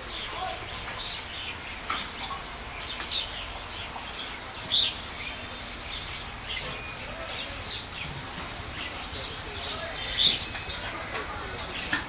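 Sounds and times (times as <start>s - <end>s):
flock of small birds chirping: 0.0s - 12.0s.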